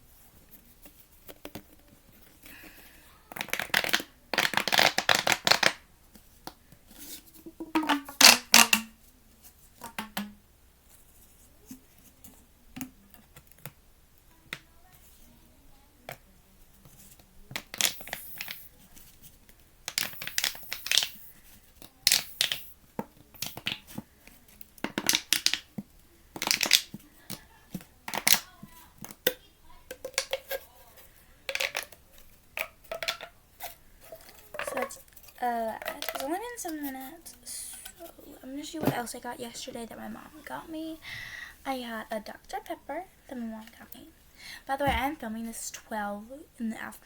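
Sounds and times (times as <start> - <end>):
plastic pop tubes crackling: 0.6 - 9.1, 9.7 - 10.4, 16.9 - 45.8.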